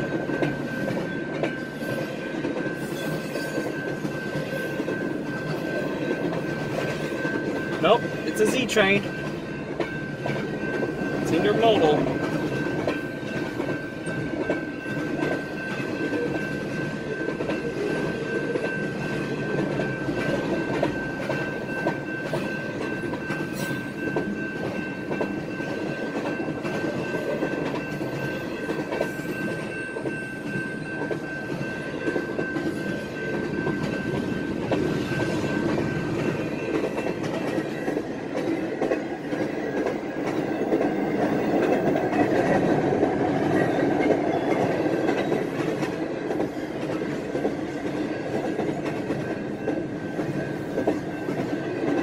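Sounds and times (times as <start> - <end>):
high ringing tone: 0.0 - 42.6
freight train wheels clacking: 0.0 - 52.0.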